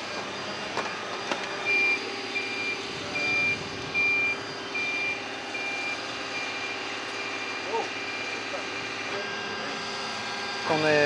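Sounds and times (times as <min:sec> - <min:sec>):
forklift running hum: 0:00.0 - 0:11.0
reversing alarm beeping: 0:00.0 - 0:11.0.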